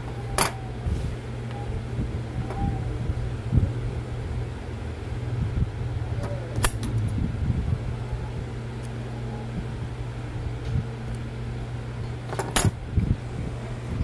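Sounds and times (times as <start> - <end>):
electric motor hum: 0.0 - 14.0.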